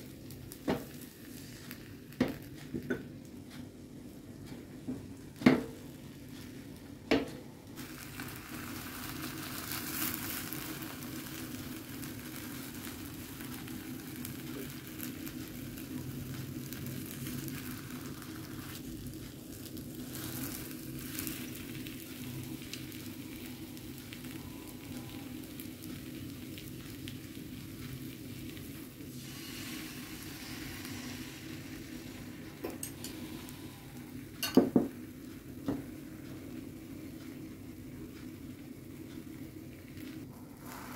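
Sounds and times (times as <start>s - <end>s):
omelette sizzling in a pan: 0.0s - 4.2s, 5.0s - 40.9s.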